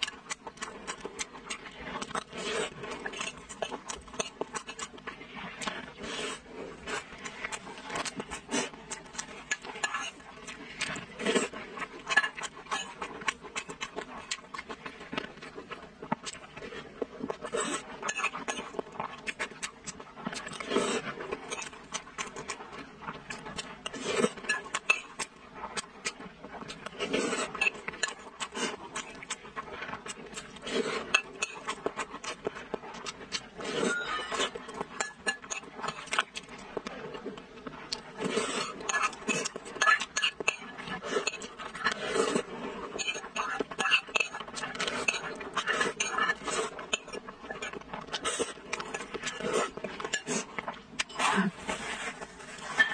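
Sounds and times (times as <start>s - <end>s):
person chewing and lip smacking: 0.0s - 6.0s, 6.8s - 51.8s.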